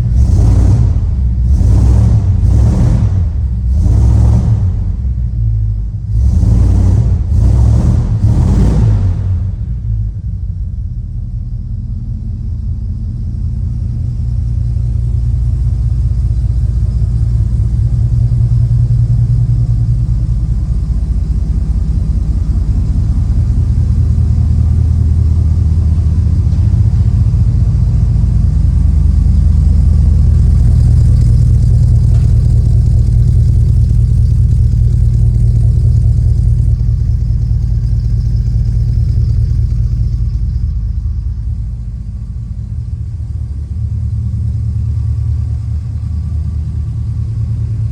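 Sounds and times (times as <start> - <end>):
deep exhaust rumble: 0.0 - 47.9.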